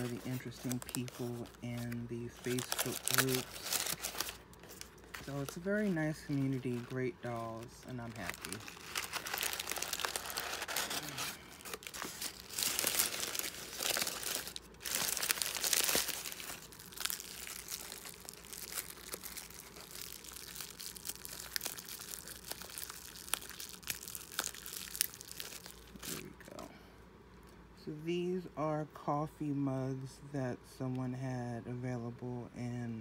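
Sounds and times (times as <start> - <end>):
packaging crinkling and tearing: 0.0 - 26.7.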